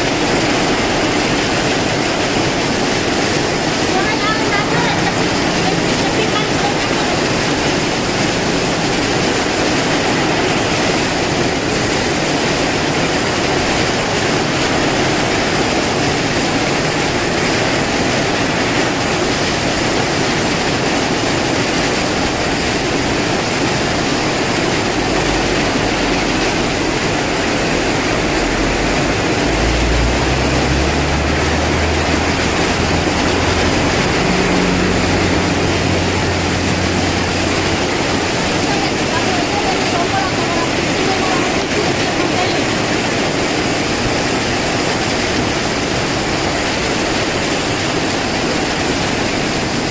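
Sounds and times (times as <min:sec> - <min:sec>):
heavy rain pouring: 0:00.0 - 0:49.9
strong wind gusts: 0:00.0 - 0:49.9.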